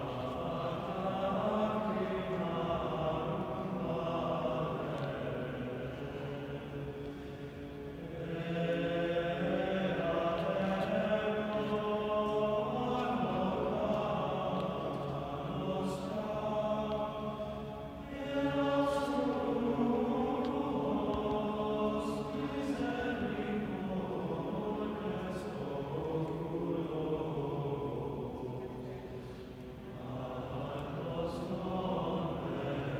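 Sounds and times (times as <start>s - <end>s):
men's choir singing unaccompanied: 0.0s - 32.9s.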